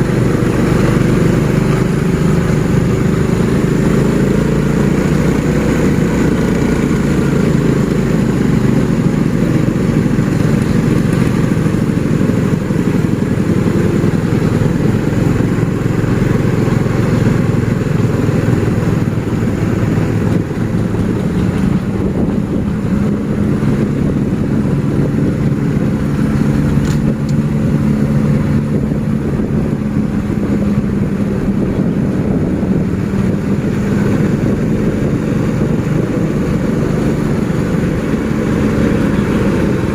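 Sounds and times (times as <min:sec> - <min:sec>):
vehicle engines humming: 0:00.0 - 0:39.9.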